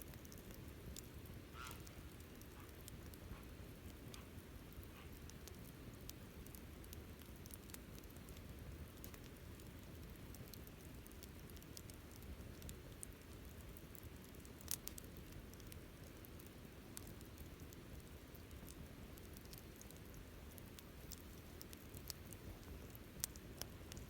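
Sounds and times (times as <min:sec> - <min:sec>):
campfire flames rumbling: 0:00.0 - 0:24.0
fire crackles and pops: 0:00.0 - 0:24.0.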